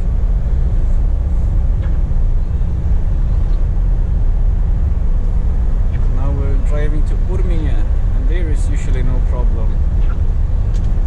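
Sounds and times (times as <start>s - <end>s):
truck engine drone inside cab: 0.0s - 11.0s.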